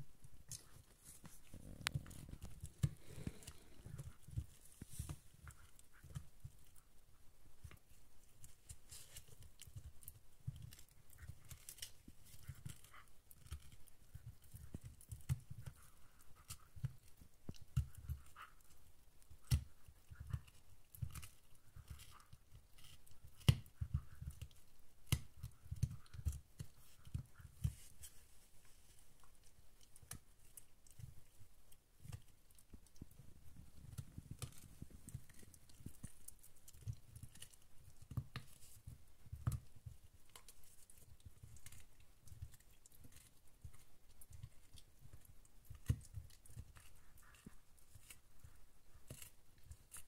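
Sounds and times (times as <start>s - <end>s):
dogs gnawing chew bones: 0.3s - 50.0s.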